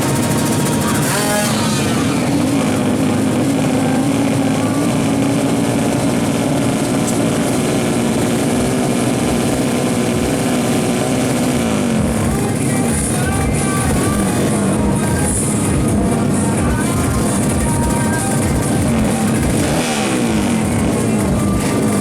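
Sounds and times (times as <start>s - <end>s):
motorcycle engine running high: 0.0s - 22.0s.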